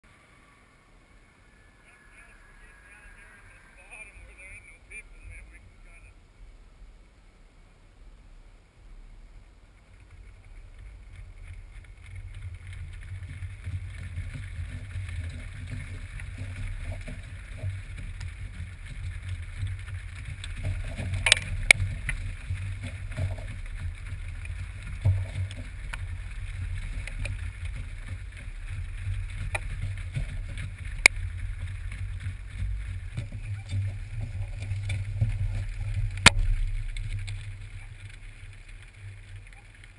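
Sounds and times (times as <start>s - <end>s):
muffled rumble of hooves: 0.0s - 39.9s.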